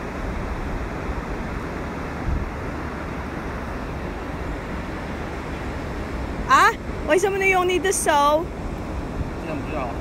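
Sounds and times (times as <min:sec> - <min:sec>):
surf on the beach: 0:00.0 - 0:10.0
wind: 0:00.0 - 0:10.0
wind buffeting the microphone: 0:00.0 - 0:10.0.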